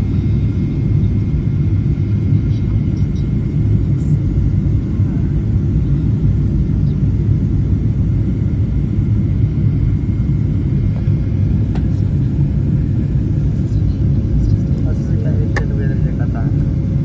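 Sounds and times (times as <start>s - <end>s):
airliner engine rumble and rushing air: 0.0s - 17.0s.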